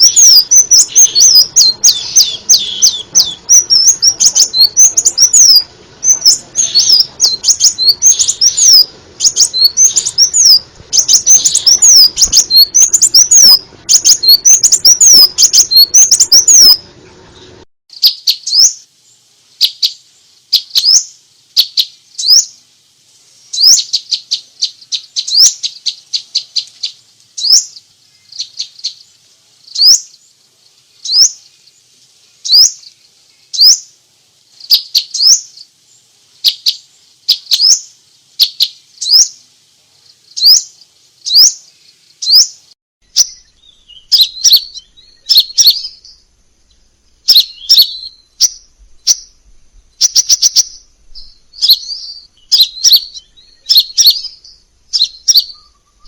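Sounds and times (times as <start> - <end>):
bird calling and twittering: 0.0 - 22.6, 23.4 - 34.0, 34.6 - 39.4, 40.0 - 56.0.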